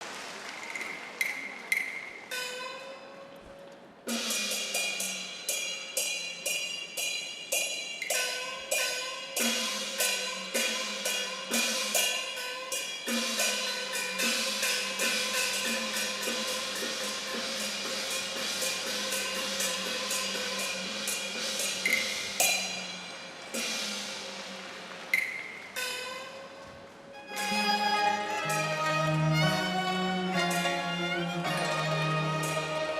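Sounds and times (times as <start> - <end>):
gongs cymbals and clappers: 0.0 - 3.1, 4.1 - 26.7, 27.3 - 32.9.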